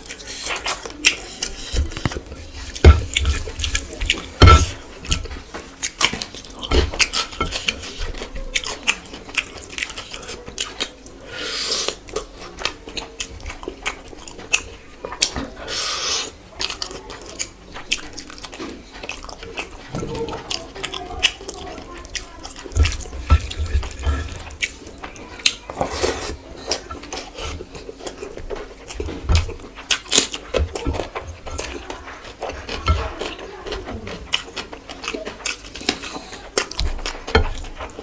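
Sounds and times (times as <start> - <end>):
wet chewing: 0.0 - 38.0.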